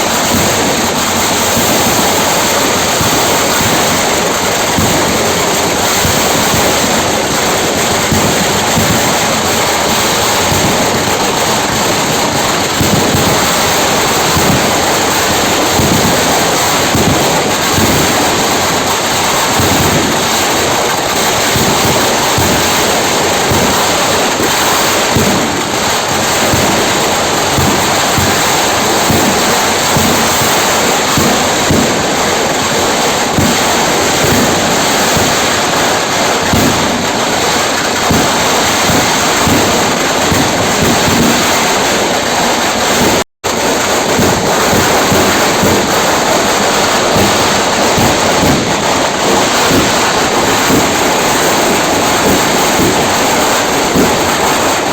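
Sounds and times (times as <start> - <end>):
fireworks crackling and hissing: 0.0 - 54.9.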